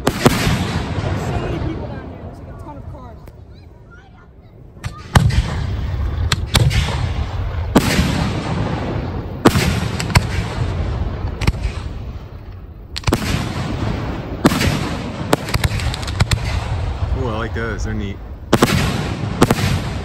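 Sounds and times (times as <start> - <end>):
firework bangs: 0.0 - 2.4, 4.8 - 20.0.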